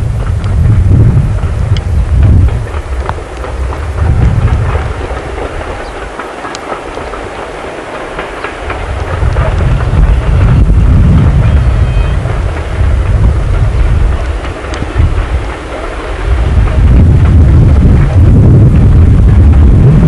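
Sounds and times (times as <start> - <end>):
distant steam locomotive: 0.0 - 20.0
wind buffeting microphone: 0.0 - 20.0.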